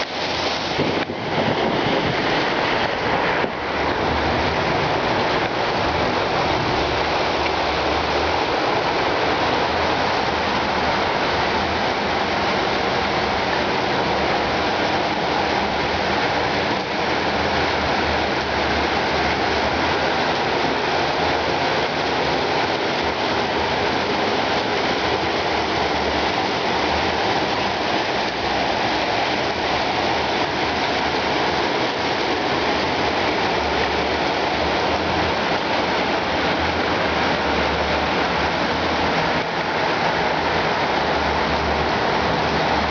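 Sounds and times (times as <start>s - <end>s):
rain falling: 0.0s - 42.9s.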